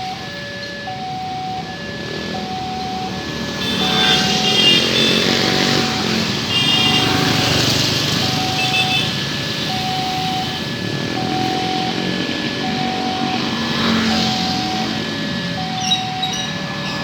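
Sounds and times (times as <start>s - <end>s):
level crossing warning siren: 0.0s - 17.0s
loud steady rumble: 1.1s - 17.0s.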